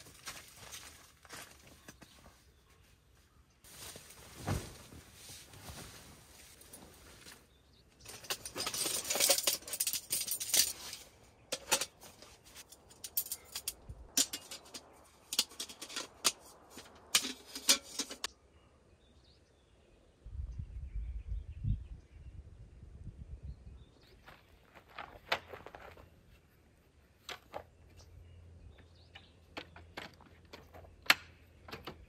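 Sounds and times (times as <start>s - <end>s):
rustling of camp gear: 0.0s - 18.3s, 24.0s - 32.0s.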